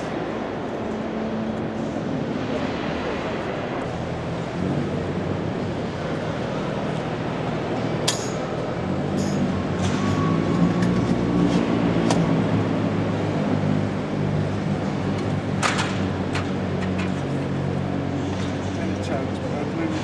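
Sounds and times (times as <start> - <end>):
hubbub of distant voices: 0.0 - 20.0.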